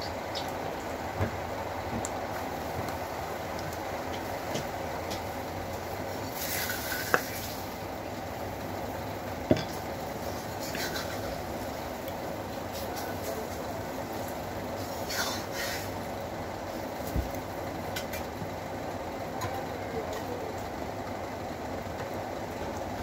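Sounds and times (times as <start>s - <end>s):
ceiling fan whirring: 0.0s - 23.0s.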